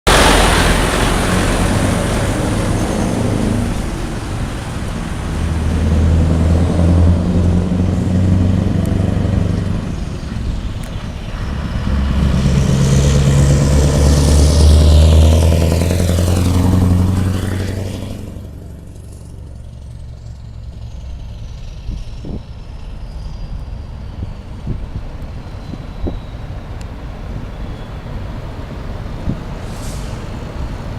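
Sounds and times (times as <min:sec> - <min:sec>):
truck diesel engine pulling hard: 0:00.0 - 0:30.9.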